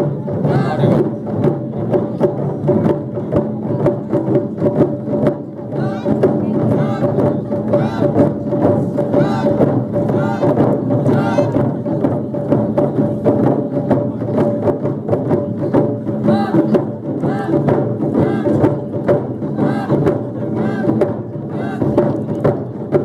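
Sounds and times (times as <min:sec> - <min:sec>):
drum ensemble playing: 0:00.0 - 0:23.0.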